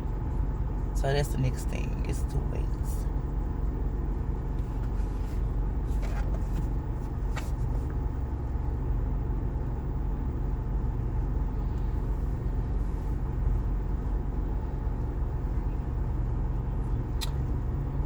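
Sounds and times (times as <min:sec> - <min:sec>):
truck idling low rumble: 0:00.0 - 0:18.0.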